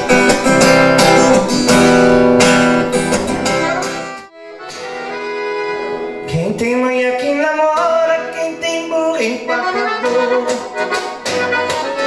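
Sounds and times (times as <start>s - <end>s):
acoustic guitars strummed and picked: 0.0s - 12.0s.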